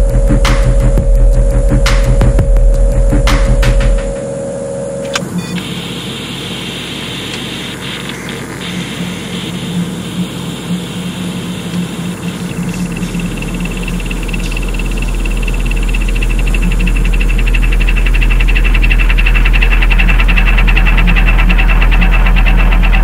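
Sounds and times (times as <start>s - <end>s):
drum and bass music: 0.0s - 4.4s, 5.7s - 23.0s
deep sub-bass drone: 0.0s - 5.2s, 7.8s - 23.0s
high steady whine: 0.0s - 23.0s.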